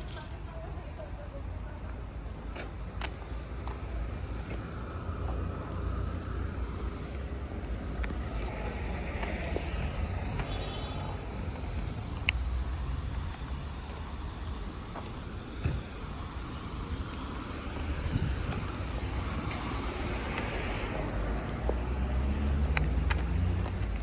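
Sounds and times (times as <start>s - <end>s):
traffic going by: 0.0s - 24.0s
wind rumbling on microphone: 3.8s - 24.0s.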